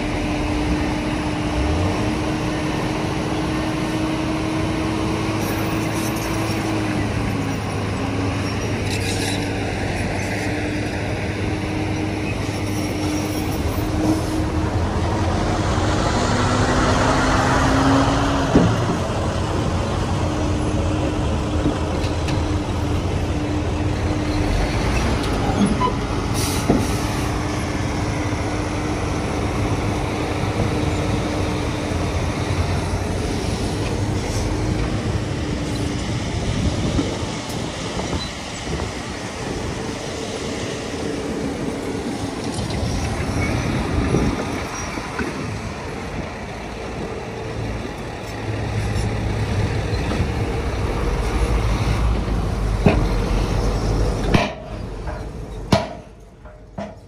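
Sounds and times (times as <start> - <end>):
heavy diesel machinery drone: 0.0 - 57.0.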